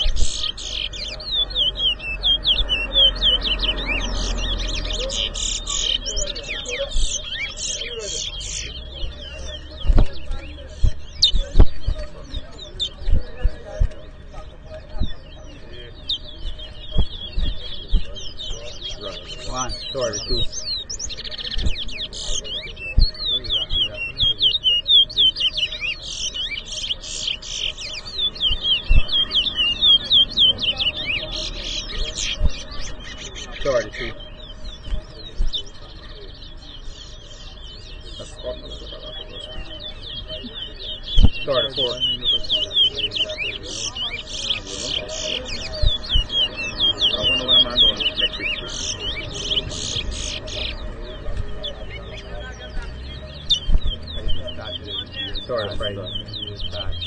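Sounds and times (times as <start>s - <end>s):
finches whistling: 0.0s - 57.0s.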